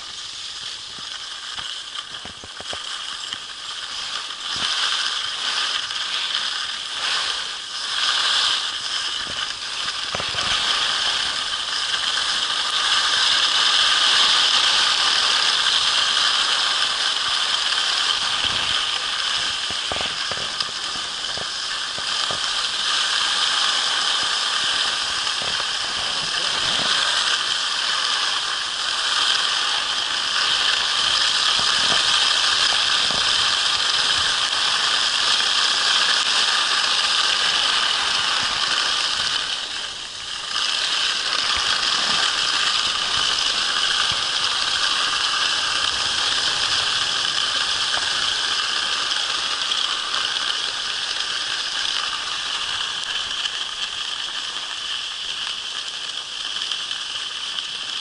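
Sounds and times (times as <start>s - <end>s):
skis scraping over crusty snow: 0.0s - 58.0s.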